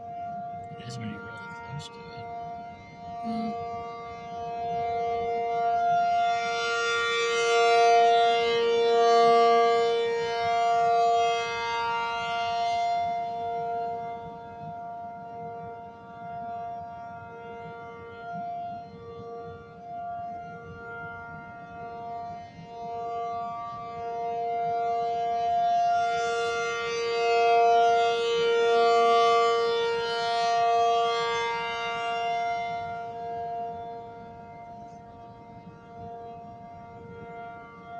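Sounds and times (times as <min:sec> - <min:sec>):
warning siren steady tone: 0:00.0 - 0:37.9.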